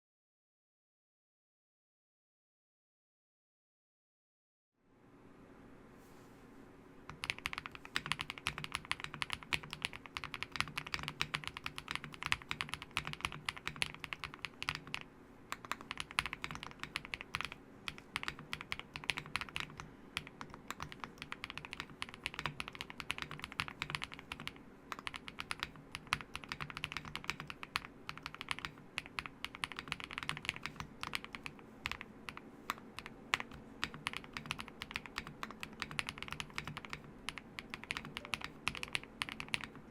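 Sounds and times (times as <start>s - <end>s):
mechanical keyboard typing: 7.1s - 39.9s.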